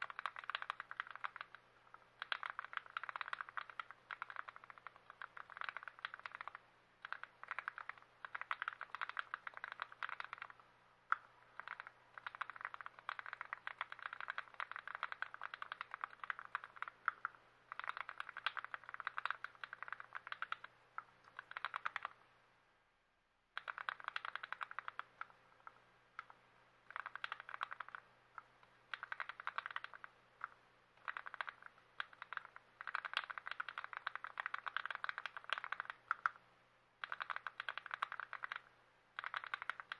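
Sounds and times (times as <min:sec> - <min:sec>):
mechanical keyboard clicks: 0:00.0 - 0:22.2, 0:23.6 - 0:36.4, 0:37.0 - 0:39.9
faint low hum: 0:00.0 - 0:39.9.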